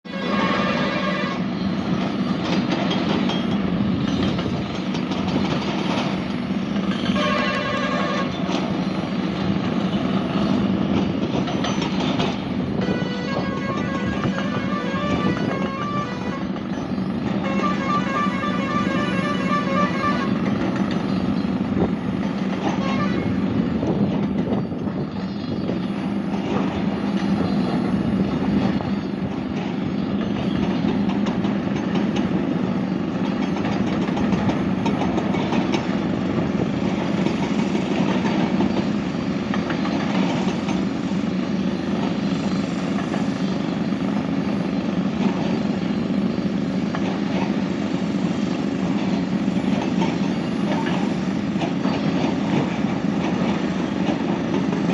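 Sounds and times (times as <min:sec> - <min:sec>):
heavy machine rumbling and rattling: 0:00.2 - 0:54.9.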